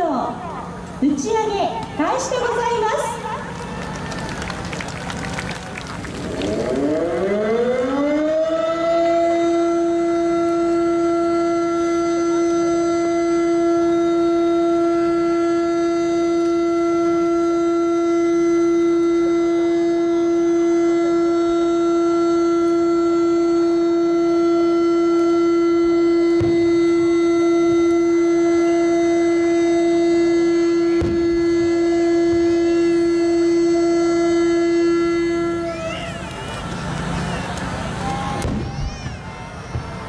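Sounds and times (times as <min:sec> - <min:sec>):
warning siren wailing: 0:02.0 - 0:40.0.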